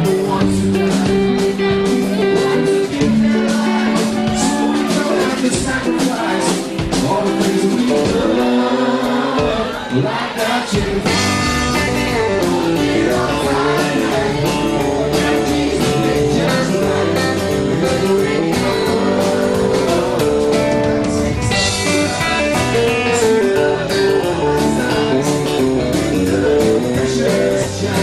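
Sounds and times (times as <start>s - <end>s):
country band playing: 0.0s - 28.0s
person singing: 0.0s - 28.0s.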